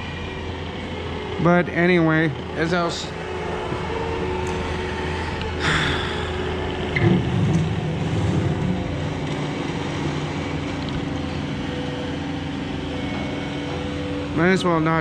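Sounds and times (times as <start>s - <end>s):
diesel engine running loudly: 0.0s - 15.0s.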